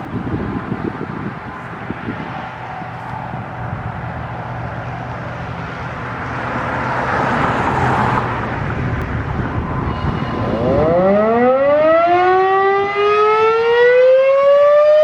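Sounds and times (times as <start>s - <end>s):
vehicle passing: 0.0s - 14.4s
highway traffic noise: 0.0s - 15.0s.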